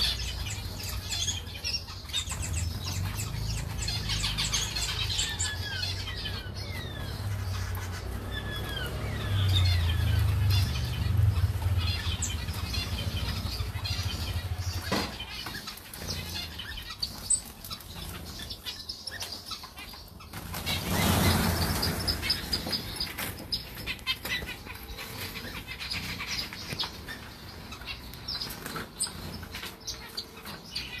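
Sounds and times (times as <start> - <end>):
finches chirping: 0.0 - 31.0.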